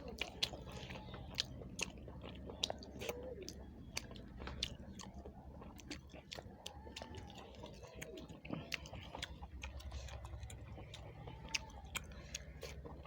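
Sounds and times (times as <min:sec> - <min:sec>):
food being chewed: 0:00.0 - 0:13.0.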